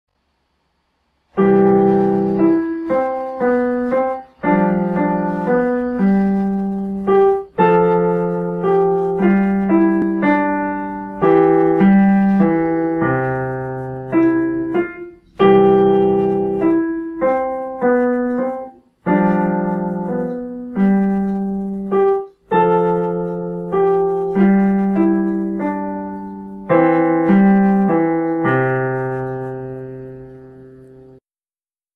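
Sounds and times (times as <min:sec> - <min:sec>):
digital piano children's piece: 0:01.3 - 0:31.2.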